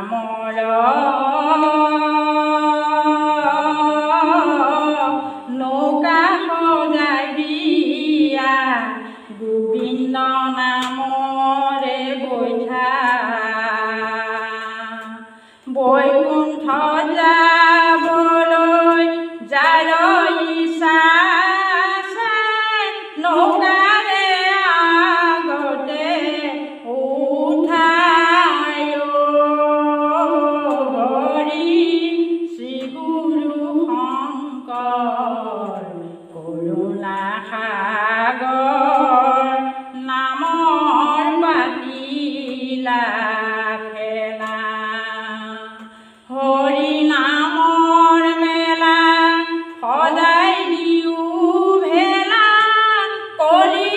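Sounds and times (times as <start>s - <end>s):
woman singing unaccompanied: 0.0s - 53.9s.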